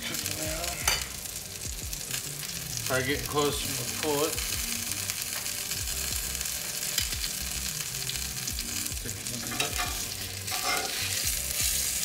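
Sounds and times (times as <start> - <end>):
cutlet sizzling in a skillet: 0.0 - 12.0.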